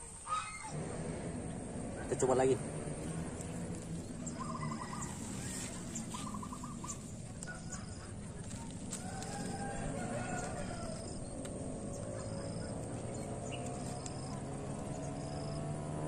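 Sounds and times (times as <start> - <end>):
lower wavering fowl calls: 0.0 - 2.1, 2.7 - 14.8
steady low hum: 0.0 - 16.0.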